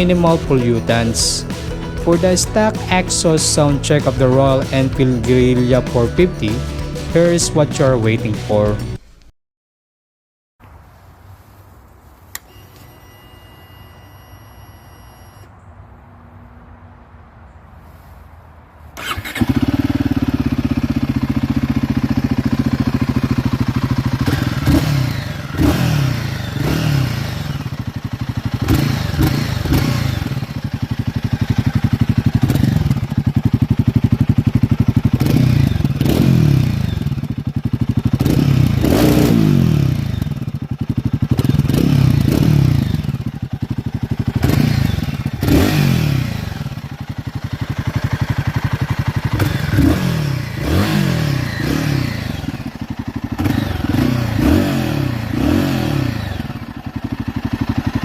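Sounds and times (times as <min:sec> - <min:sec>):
motorcycle engine idling: 0:00.0 - 0:09.0, 0:19.0 - 0:58.0
motorcycle engine revving: 0:00.0 - 0:09.0, 0:19.0 - 0:58.0.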